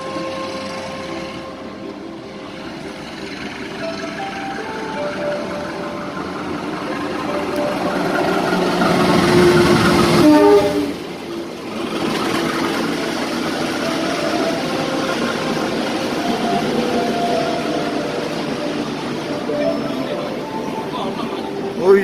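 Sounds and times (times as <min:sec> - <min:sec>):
diesel locomotive passing: 0:00.0 - 0:22.0
train wheel noise: 0:00.0 - 0:22.0
wheels squealing: 0:00.0 - 0:22.0.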